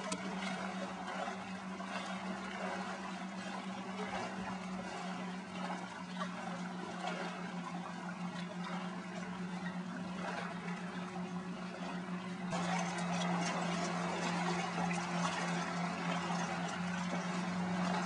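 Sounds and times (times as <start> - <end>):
low motor hum: 0.0 - 18.0
water wash: 0.0 - 18.0.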